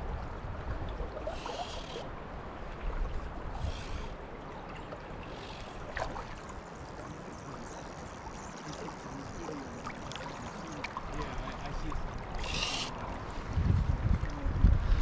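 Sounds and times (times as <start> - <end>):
river current gurgling: 0.4 - 14.6.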